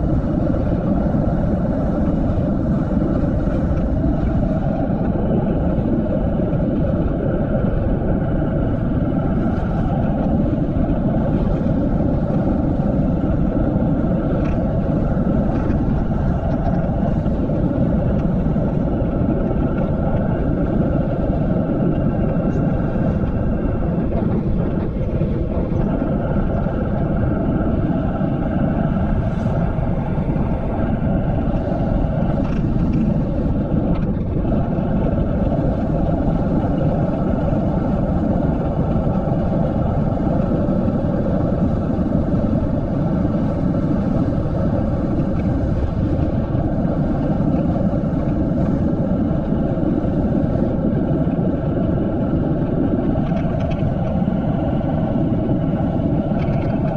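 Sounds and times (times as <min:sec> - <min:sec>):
bike tyres humming on asphalt: 0:00.0 - 0:56.9
wind rushing over microphone: 0:00.0 - 0:56.9.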